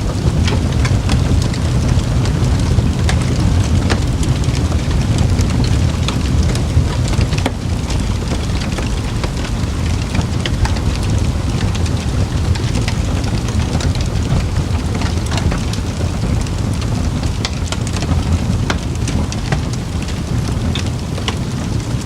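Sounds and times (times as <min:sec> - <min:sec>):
campfire wood popping and snapping: 0:00.0 - 0:22.0
low rumble of flames: 0:00.0 - 0:22.0.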